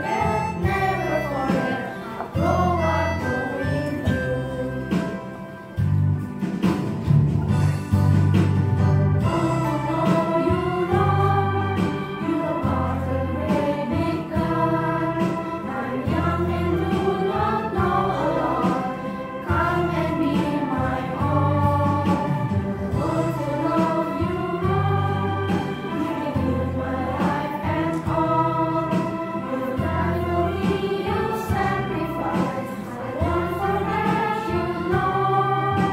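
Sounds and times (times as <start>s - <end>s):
children's choir singing: 0.0s - 5.7s, 9.2s - 35.9s
instrumental accompaniment: 0.0s - 35.9s.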